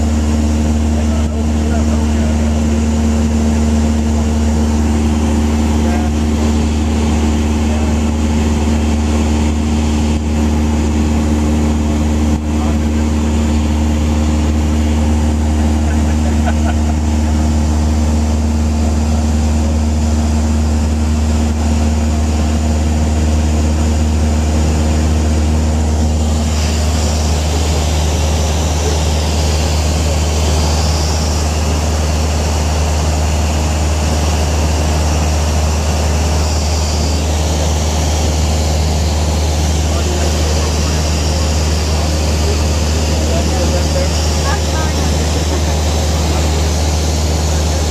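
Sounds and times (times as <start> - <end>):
propeller airplane engine droning: 0.0 - 47.9.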